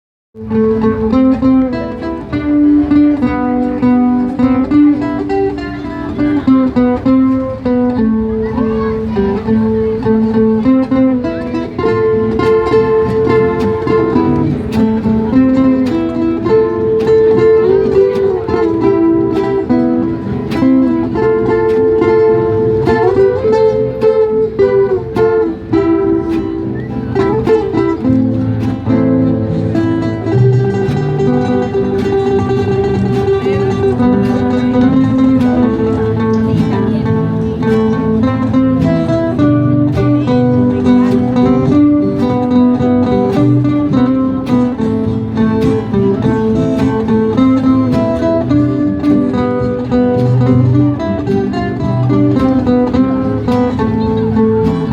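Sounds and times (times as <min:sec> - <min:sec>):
low bass notes: 0:00.4 - 0:54.9
plucked guitar music: 0:00.4 - 0:54.9.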